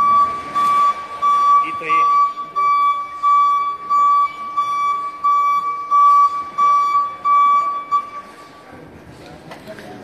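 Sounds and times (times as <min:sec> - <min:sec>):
warning beeper beeping: 0:00.0 - 0:08.5.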